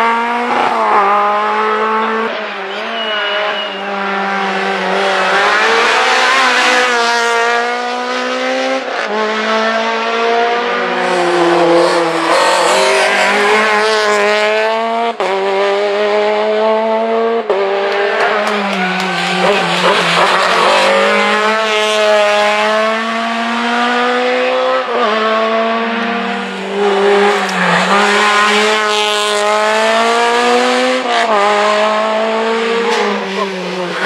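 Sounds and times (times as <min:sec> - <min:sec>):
rally car engines accelerating: 0:00.0 - 0:34.0.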